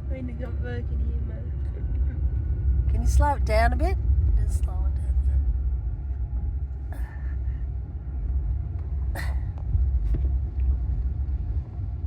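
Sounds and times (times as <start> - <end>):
car road rumble: 0.0 - 12.0.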